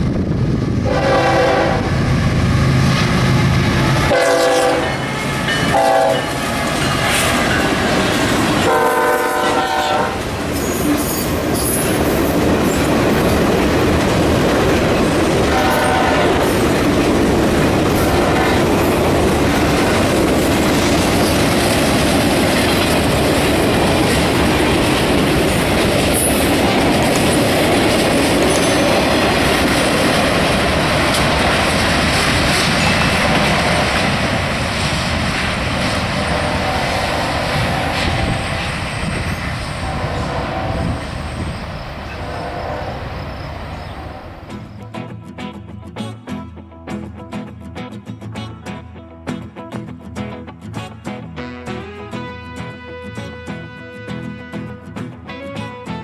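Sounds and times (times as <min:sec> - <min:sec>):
freight train rumbling past: 0:00.0 - 0:44.8.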